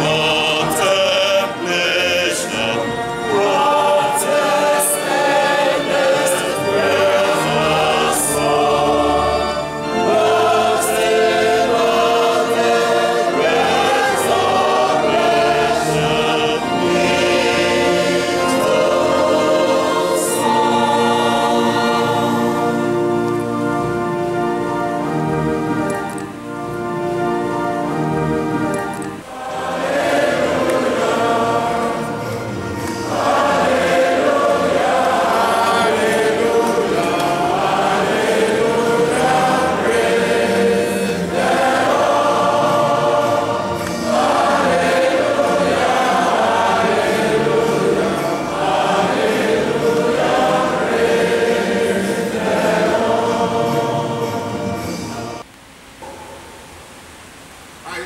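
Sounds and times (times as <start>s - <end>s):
choir singing a hymn: 0.0s - 55.5s.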